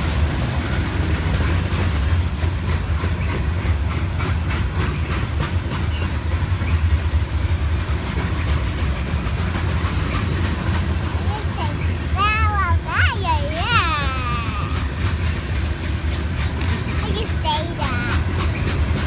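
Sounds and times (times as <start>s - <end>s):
freight train rumble: 0.0s - 19.0s
wheels clacking over rails: 0.0s - 19.0s.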